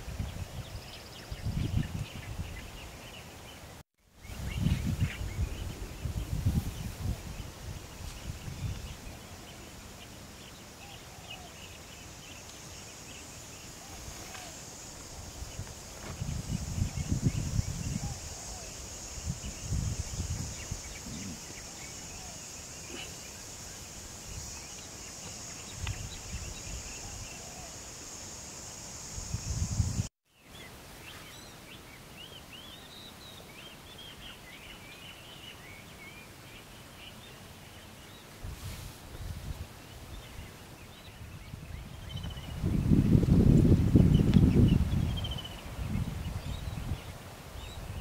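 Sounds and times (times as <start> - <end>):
steady high hiss: 0.0 - 48.0.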